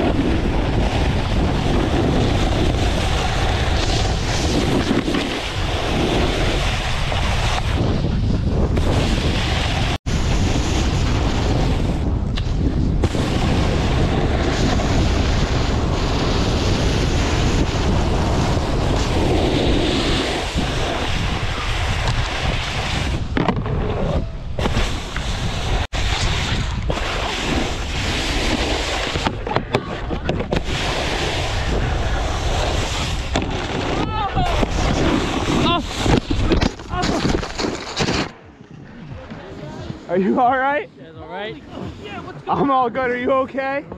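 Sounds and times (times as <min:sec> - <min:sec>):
snowboard scraping on snow: 0:00.0 - 0:42.8
wind rushing over microphone: 0:00.0 - 0:43.9.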